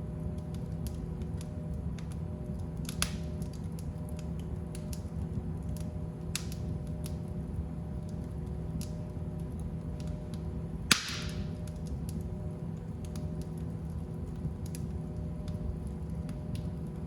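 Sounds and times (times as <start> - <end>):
fire crackling and popping: 0.0 - 17.0
loud fire snaps: 0.0 - 17.0
low rumble of flames: 0.0 - 17.0.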